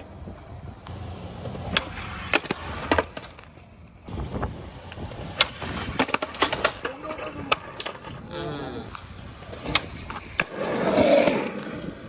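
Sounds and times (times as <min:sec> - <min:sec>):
skateboard clacks: 0:00.0 - 0:12.0
skateboard wheels rolling on concrete: 0:00.0 - 0:12.0.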